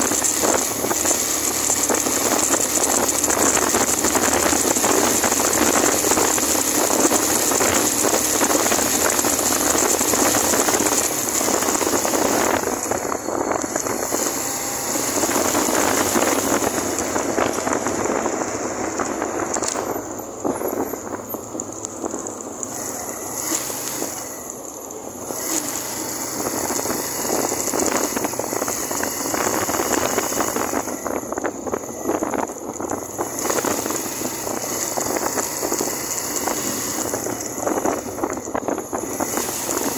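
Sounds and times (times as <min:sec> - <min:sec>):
wind rushing over microphone: 0:00.0 - 0:24.3, 0:25.2 - 0:39.9
motorcycle engine running: 0:00.0 - 0:39.9.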